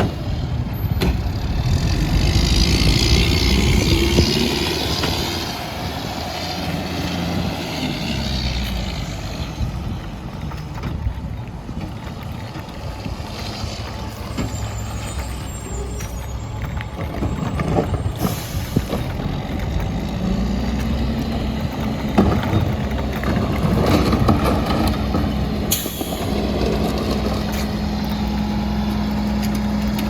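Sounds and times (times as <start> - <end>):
garbage truck diesel engine drone: 0.0 - 30.0.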